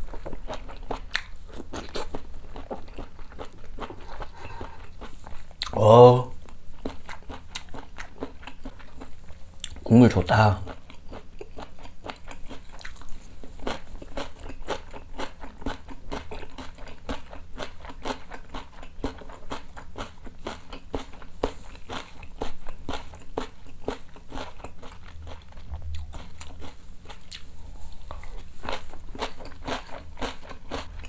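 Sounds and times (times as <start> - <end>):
crunchy chewing: 0.0 - 5.8, 6.4 - 9.9, 10.6 - 31.0.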